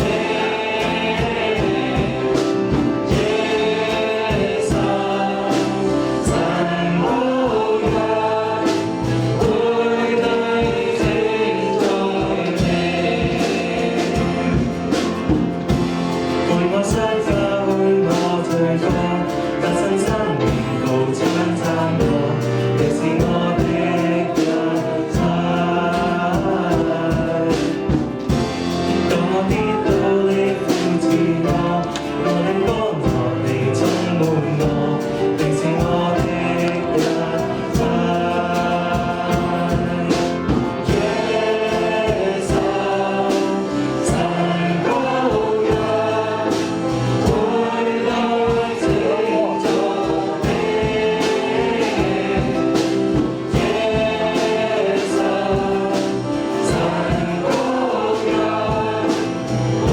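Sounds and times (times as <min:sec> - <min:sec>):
congregation and band singing: 0:00.0 - 0:59.9.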